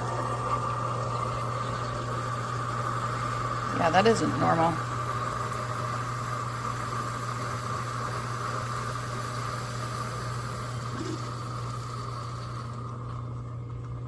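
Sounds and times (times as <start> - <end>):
coffee machine hissing: 0.0 - 13.8
coffee machine pump humming: 0.0 - 14.0.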